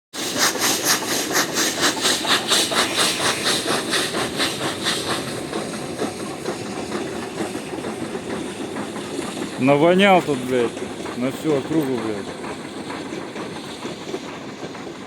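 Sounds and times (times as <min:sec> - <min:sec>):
steam locomotive chuffing: 0:00.1 - 0:15.0
locomotive rumble: 0:00.2 - 0:15.0
steam hissing: 0:00.2 - 0:15.0.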